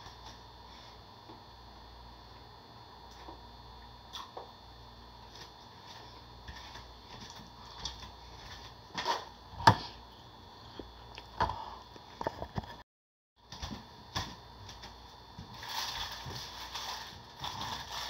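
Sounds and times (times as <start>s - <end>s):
faint electrical hum: 0.0s - 12.8s, 13.4s - 18.0s.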